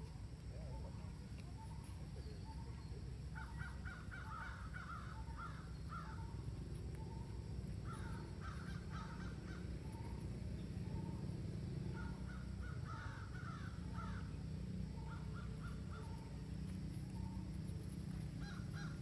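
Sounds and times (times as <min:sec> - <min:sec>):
steady low rumble: 0:00.0 - 0:19.0
birds harsh calls: 0:00.7 - 0:17.5, 0:18.1 - 0:19.0.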